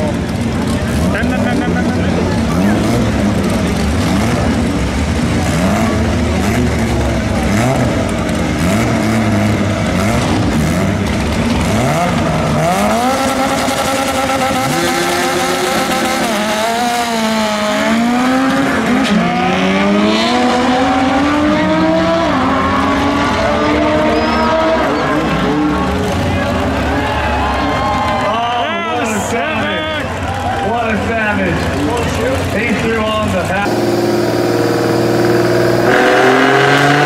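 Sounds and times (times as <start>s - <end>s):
car engines accelerating hard: 0.0s - 37.0s
car engines revving: 0.0s - 37.0s.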